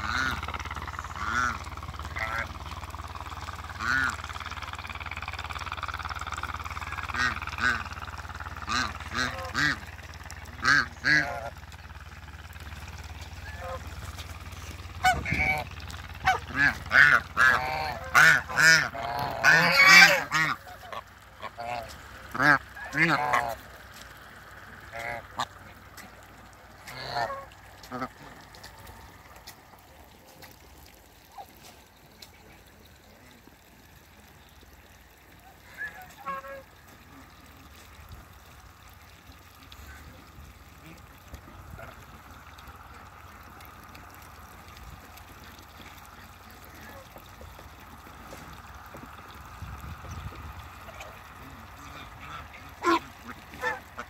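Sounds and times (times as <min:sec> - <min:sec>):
goose call: 0:00.0 - 0:29.5, 0:35.4 - 0:44.5, 0:45.2 - 0:54.0
geese honking: 0:00.0 - 0:31.7, 0:34.4 - 0:54.0
bills ticking at feed: 0:00.0 - 0:54.0.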